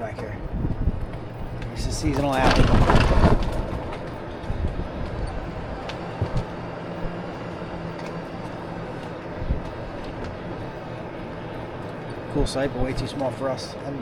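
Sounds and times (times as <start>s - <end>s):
vehicle rumbling on road: 0.0s - 14.0s.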